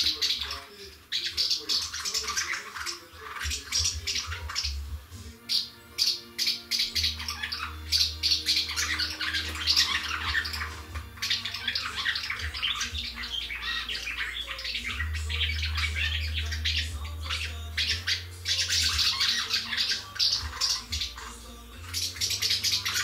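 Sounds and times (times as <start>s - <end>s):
swallows twittering: 0.0s - 23.0s.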